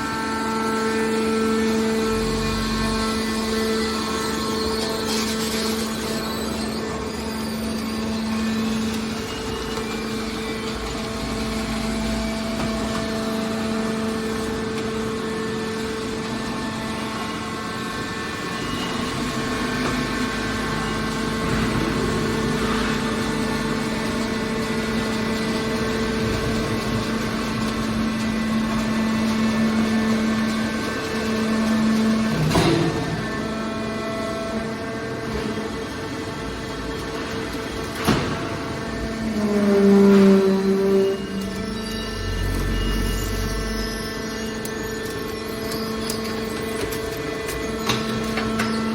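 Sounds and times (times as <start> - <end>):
hydraulic power unit humming: 0.0 - 48.9.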